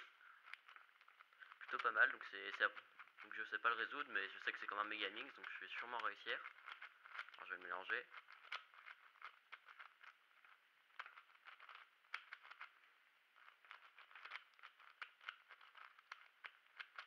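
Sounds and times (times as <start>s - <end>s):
plastic puzzle clicks: 0.0s - 17.0s.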